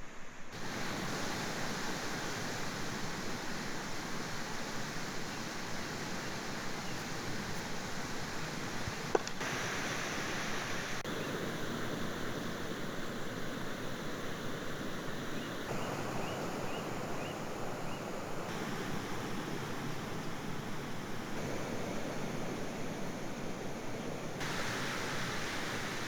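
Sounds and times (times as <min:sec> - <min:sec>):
steady rushing outdoor noise: 0:00.1 - 0:26.0.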